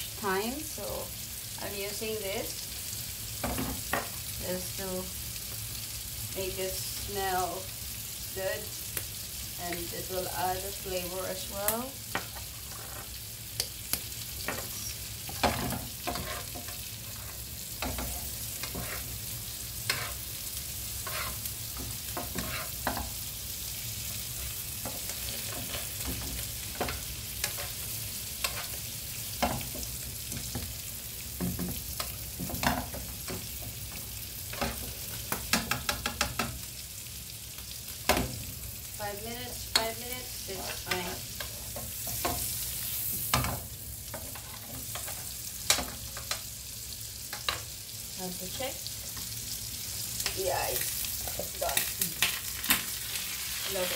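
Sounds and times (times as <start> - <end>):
steaks sizzling in frying pan: 0.0 - 53.9.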